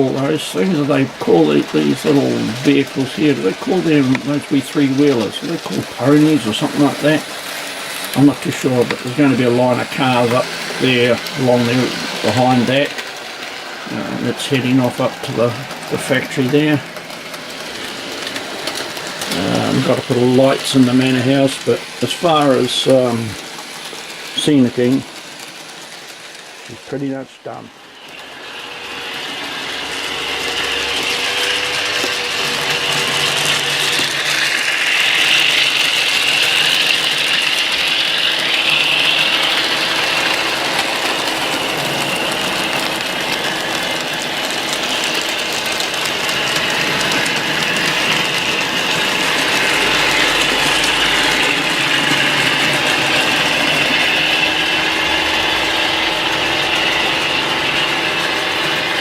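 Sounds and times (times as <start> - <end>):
model train motor whirring: 0.0 - 59.0.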